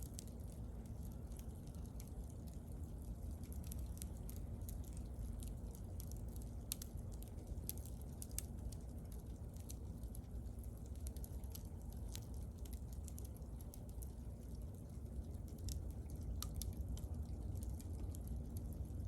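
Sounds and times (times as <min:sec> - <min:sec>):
bonfire crackling and popping: 0:00.0 - 0:19.0
low rumble of flames: 0:00.0 - 0:19.0.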